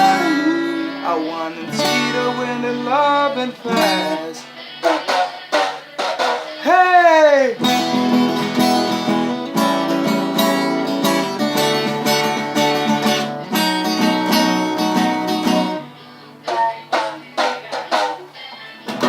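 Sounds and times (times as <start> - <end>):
acoustic guitar blues: 0.0 - 19.0.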